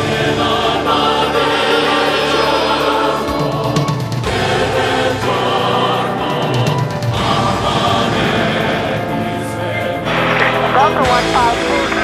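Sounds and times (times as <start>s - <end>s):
choir singing sustained notes: 0.0s - 12.0s.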